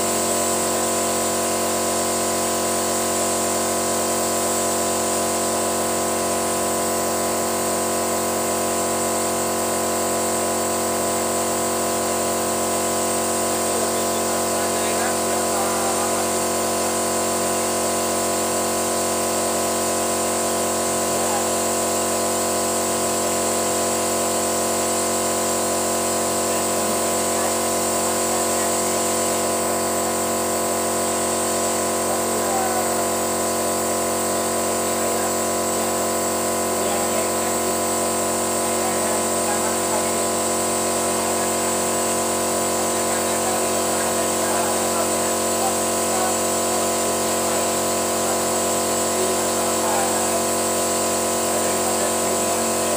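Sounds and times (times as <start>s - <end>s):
motor humming steadily: 0.0s - 52.9s.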